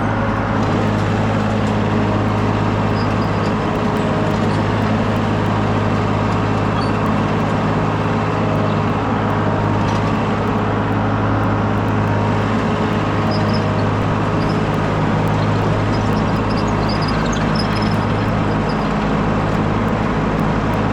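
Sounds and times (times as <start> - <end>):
skid steer engine running: 0.0 - 20.9.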